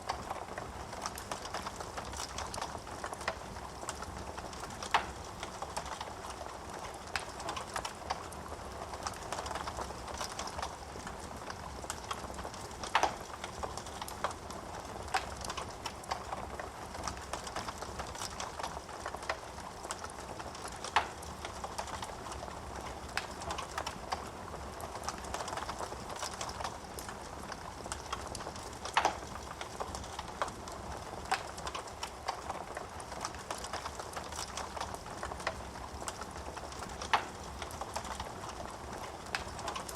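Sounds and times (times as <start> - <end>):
burning wood crackling: 0.0 - 39.9.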